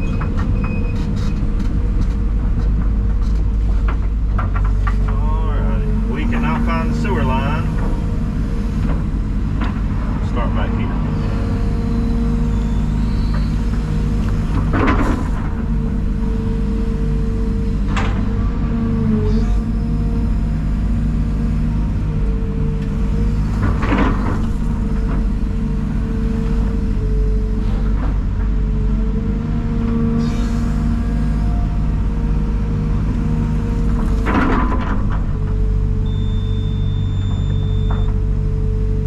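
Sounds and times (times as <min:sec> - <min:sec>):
large diesel engine rumbling: 0:00.0 - 0:39.0.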